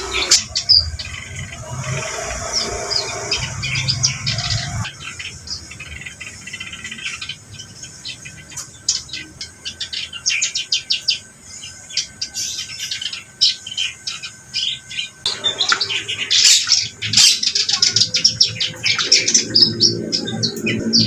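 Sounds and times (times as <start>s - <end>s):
reed warbler chattering song: 0.0s - 21.0s.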